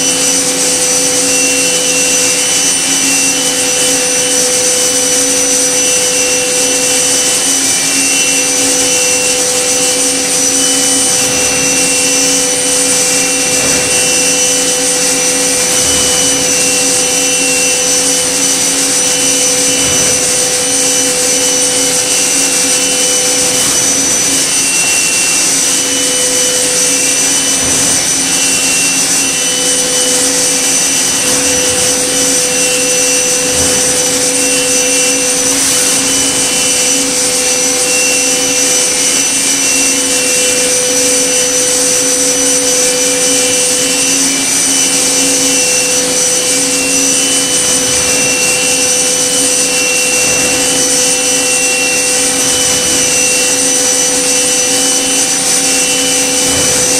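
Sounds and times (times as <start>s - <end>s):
higher machine tone: 0.0s - 41.2s, 44.1s - 56.9s
cutting and coolant noise: 0.0s - 56.9s
machining spindle whine: 0.0s - 56.9s.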